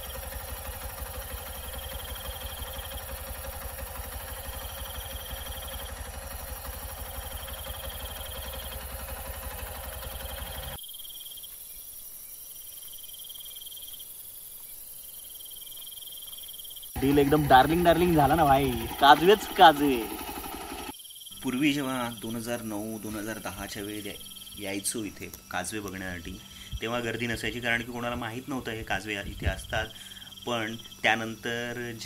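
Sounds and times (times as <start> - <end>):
night insects trilling: 0.0 - 32.0.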